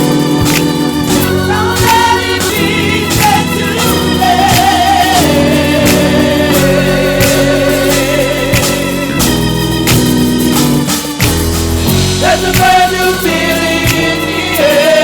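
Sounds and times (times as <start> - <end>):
person singing: 0.0 - 9.6, 12.2 - 15.0
drum kit beat: 0.0 - 15.0
organ chords: 0.0 - 15.0.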